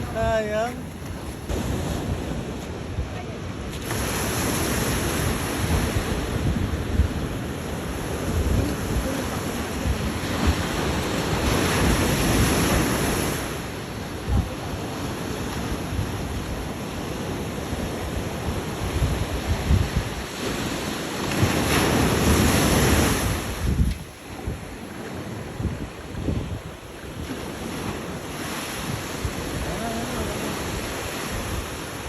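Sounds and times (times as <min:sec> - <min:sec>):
ocean surf breaking on beach: 0:00.0 - 0:32.0
wind buffeting microphone: 0:00.0 - 0:32.0.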